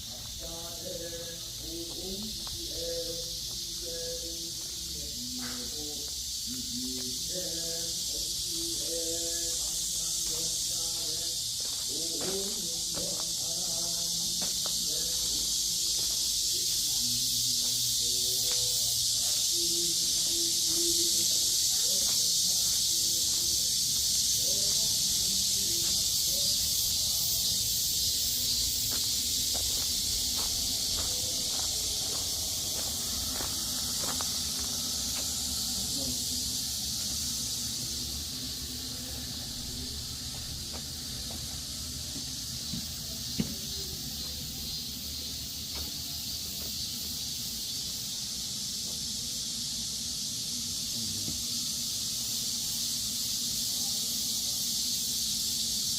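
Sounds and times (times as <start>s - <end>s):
insect chorus hiss: 0.0s - 55.9s.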